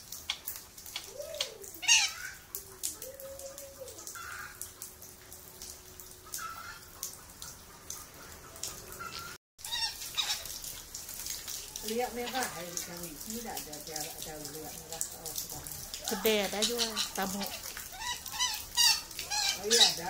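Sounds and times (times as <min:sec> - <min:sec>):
water dripping: 0:00.0 - 0:20.0.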